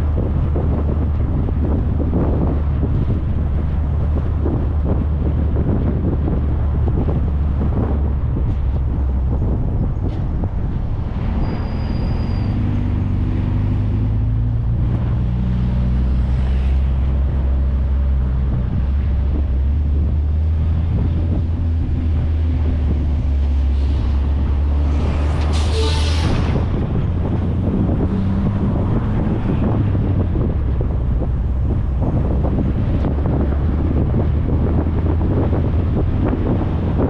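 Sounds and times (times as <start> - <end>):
car driving on highway: 0.0 - 37.0.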